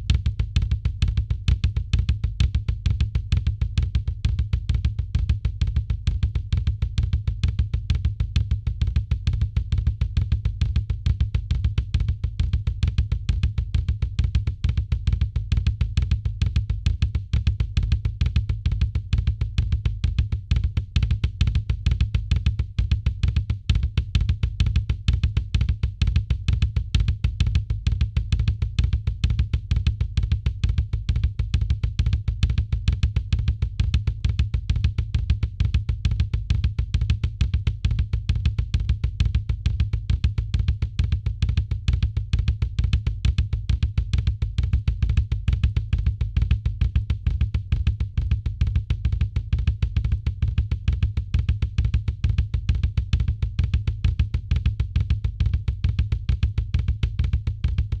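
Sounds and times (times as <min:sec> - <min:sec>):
fast drum kit pattern: 0:00.0 - 0:58.0
heavy bass drum strokes: 0:00.0 - 0:58.0.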